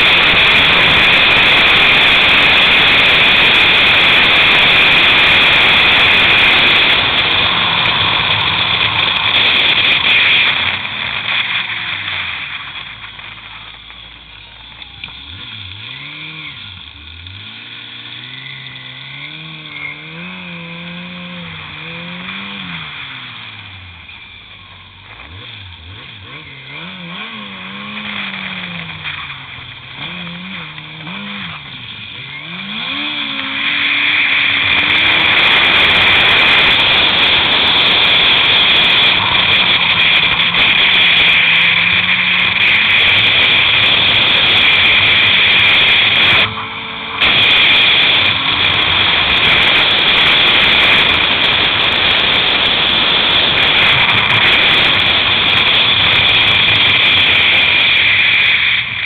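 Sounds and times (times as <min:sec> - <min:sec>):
wind rush and track noise: 0:00.0 - 0:13.8, 0:25.3 - 0:59.0
snowmobile engine revving: 0:00.0 - 0:59.0.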